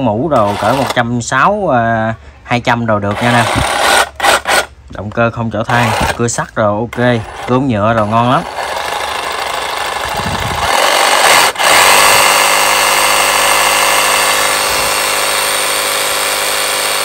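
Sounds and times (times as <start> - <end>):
reciprocating saw running: 0.0 - 1.1, 3.1 - 4.7, 5.7 - 17.0.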